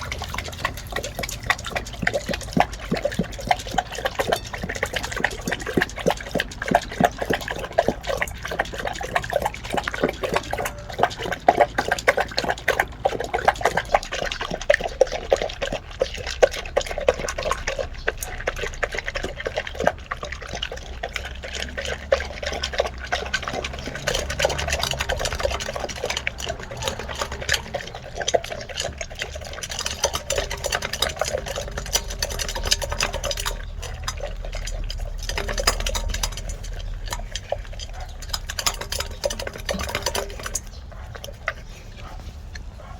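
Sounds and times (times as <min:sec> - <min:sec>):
dog lapping water: 0:00.0 - 0:42.9.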